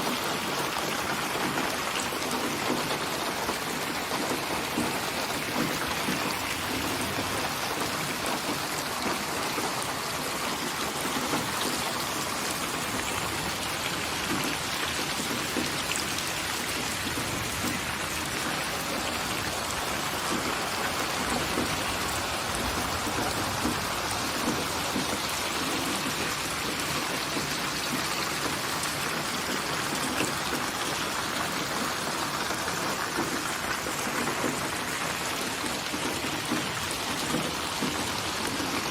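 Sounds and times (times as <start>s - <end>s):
raindrops ticking on a surface: 0.0s - 38.9s
rain hissing: 0.2s - 38.9s.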